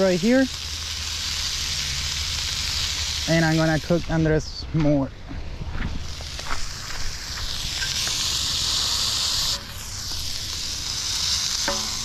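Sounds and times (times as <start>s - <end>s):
meat sizzling in a pan: 0.0s - 4.3s, 6.0s - 12.0s.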